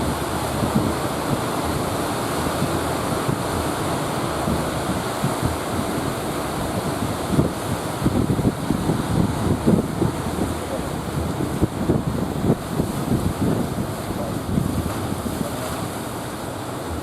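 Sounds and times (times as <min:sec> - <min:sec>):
heavy surf: 0:00.0 - 0:17.0
wind buffeting microphone: 0:00.0 - 0:17.0.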